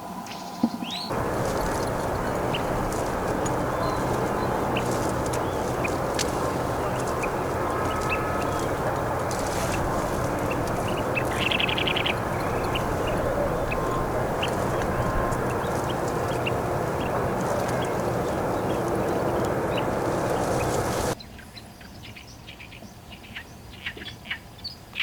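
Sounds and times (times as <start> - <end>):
low rushing noise: 1.1 - 21.2
plover calling with high notes: 1.1 - 21.2.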